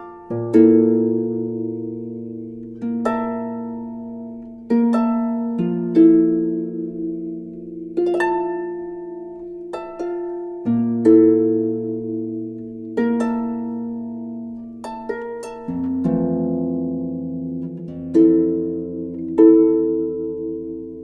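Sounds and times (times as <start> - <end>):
plucked-string notes: 0.0 - 21.0.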